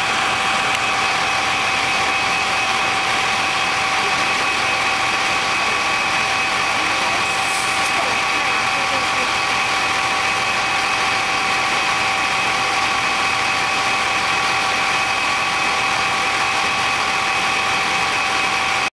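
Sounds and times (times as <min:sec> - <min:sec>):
fire engine running: 0:00.0 - 0:18.9
steady high whine: 0:00.0 - 0:18.9.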